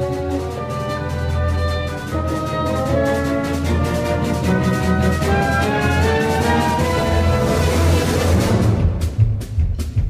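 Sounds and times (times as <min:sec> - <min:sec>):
orchestral music: 0:00.0 - 0:09.8.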